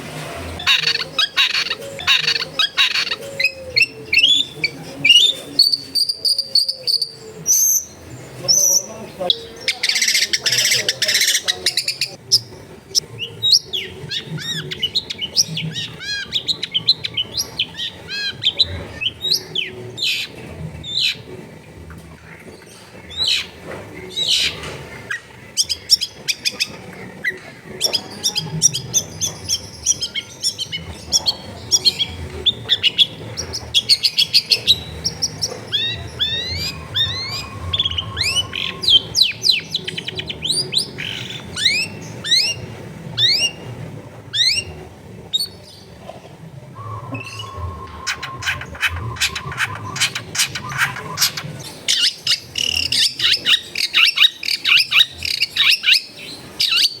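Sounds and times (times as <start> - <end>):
bird singing varied song: 0.4 - 46.0, 46.7 - 57.0.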